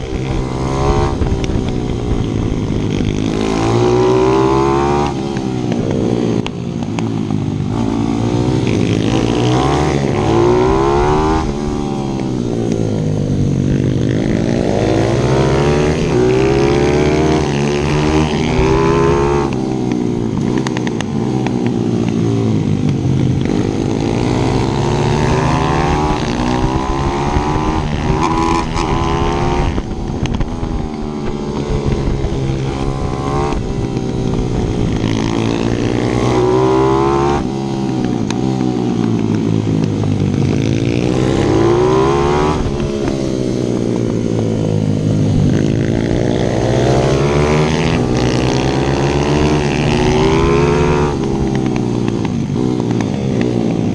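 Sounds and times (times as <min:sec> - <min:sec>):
motorbike engine revving: 0:00.0 - 0:53.9.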